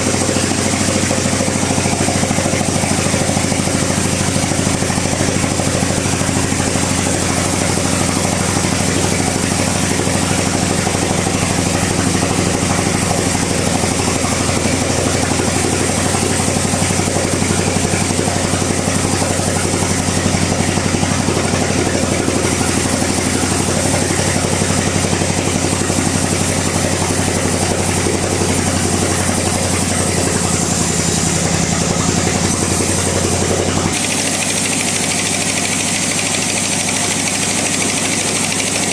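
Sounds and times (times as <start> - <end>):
machine hum: 0.0 - 38.9
saw blade cutting wood: 0.0 - 38.9.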